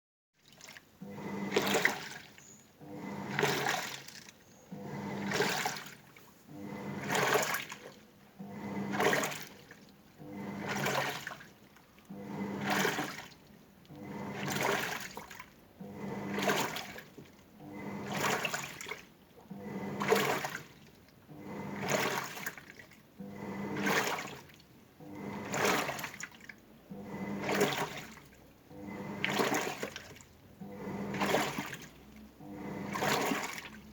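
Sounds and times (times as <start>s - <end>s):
washing machine agitating: 0.4s - 33.9s.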